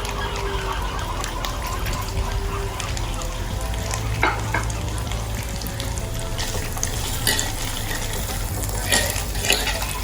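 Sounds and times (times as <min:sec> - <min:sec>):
low steady hum: 0:00.0 - 0:10.0
potatoes sizzling in butter: 0:00.0 - 0:10.0.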